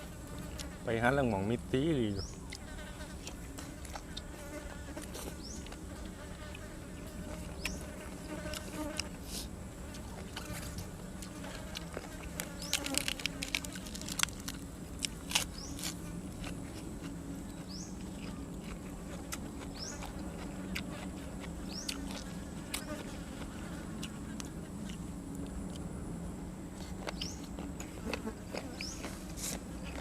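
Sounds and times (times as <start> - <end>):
steady low buzz: 0.0 - 30.0
crunchy food being chewed: 2.4 - 25.9, 26.7 - 30.0.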